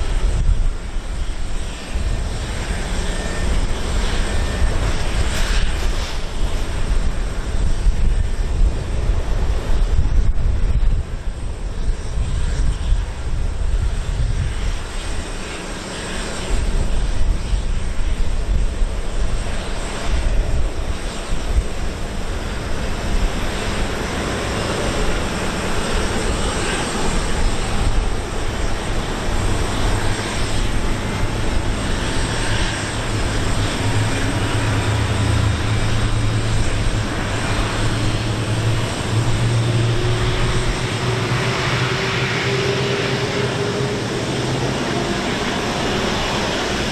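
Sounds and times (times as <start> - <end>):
jet engine rumble and whine: 0.0 - 46.9.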